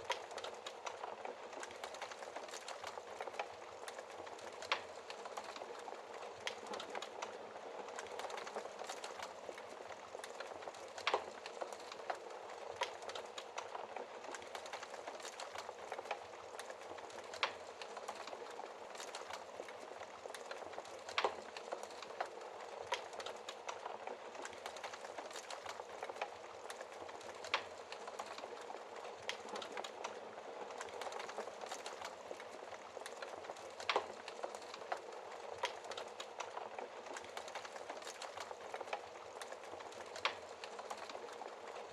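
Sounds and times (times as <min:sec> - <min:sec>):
fire hissing and crackling: 0:00.0 - 0:41.9.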